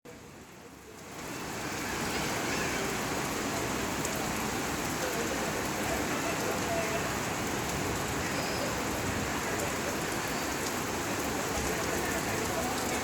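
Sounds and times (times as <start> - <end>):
heavy rain pouring: 0.1 - 13.0.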